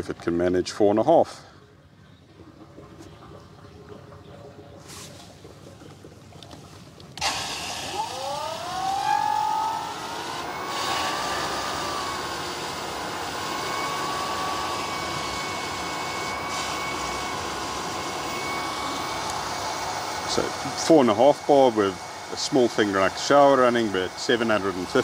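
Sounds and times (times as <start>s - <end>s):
water rushing through pipes: 0.0s - 25.0s
pump motor whine: 1.2s - 25.0s.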